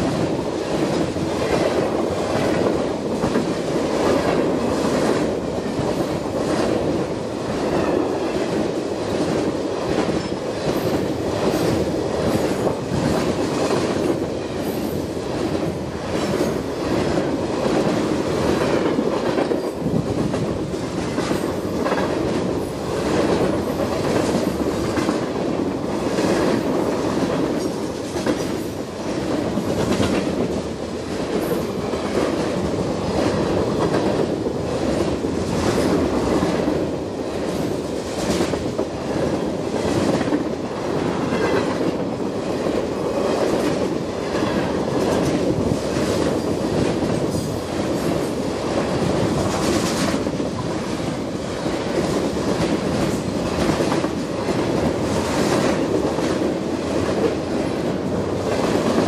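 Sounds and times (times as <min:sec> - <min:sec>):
train rumble: 0:00.0 - 0:59.0
train wheels clacking over rail joints: 0:07.5 - 0:36.7, 0:37.4 - 0:59.0.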